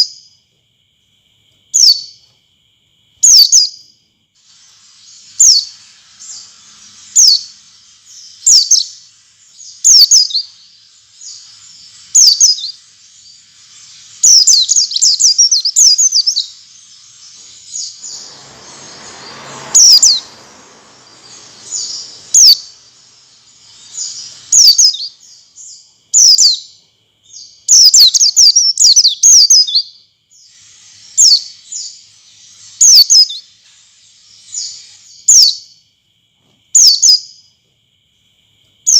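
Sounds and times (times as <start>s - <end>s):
high thin bird chirps: 1.7s - 2.3s, 3.2s - 35.8s, 36.8s - 37.5s.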